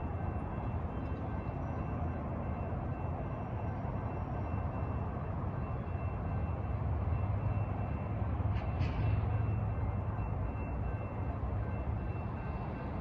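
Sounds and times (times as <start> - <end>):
low rumble of train: 0.0 - 13.0.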